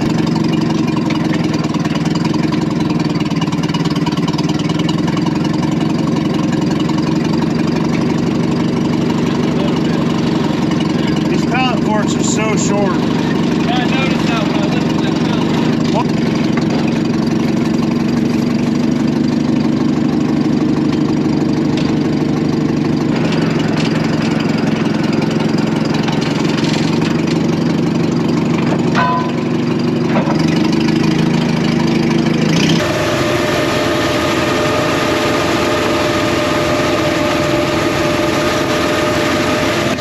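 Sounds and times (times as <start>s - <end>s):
engine idling: 0.0s - 40.0s
forklift engine running: 0.0s - 40.0s.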